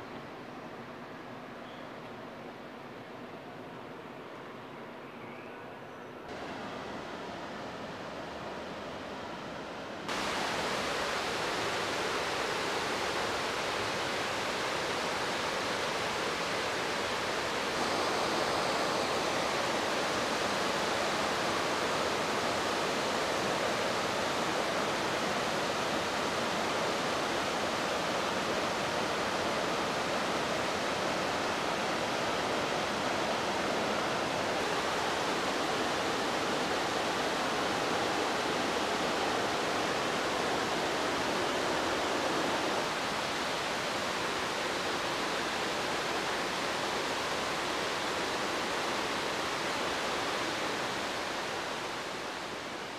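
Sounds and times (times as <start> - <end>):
water rushing over weir: 10.0 - 52.9.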